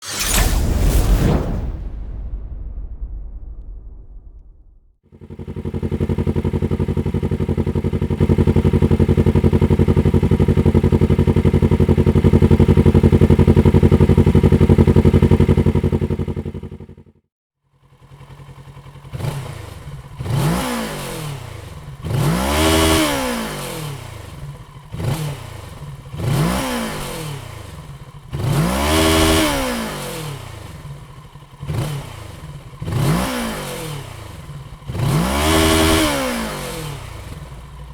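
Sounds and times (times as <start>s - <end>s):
motorcycle engine revving: 5.1s - 37.9s
motorcycle engine running: 5.1s - 37.9s.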